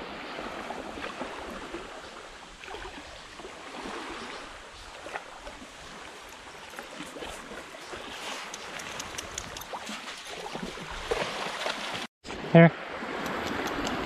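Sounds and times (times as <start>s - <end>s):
lake waves lapping: 0.0s - 14.0s.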